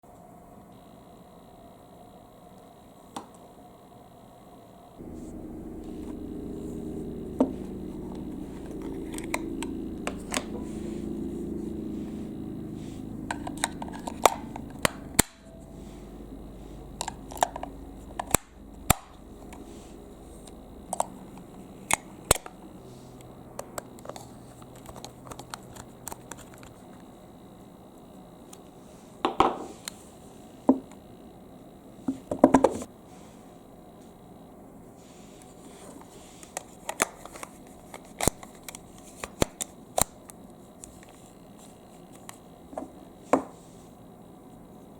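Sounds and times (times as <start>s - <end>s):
steady low hum: 0.1s - 44.9s.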